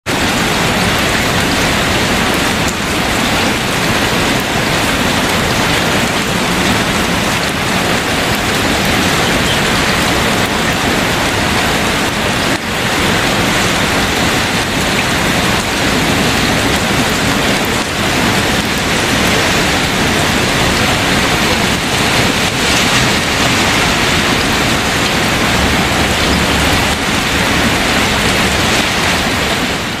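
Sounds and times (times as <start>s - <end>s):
steady loud rain: 0.0s - 30.0s.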